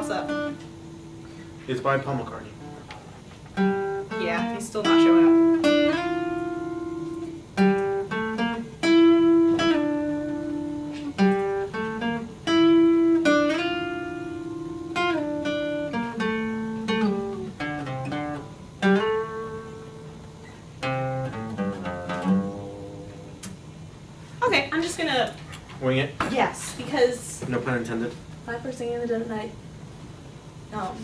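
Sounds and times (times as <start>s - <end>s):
acoustic guitar picking: 0.0s - 25.8s.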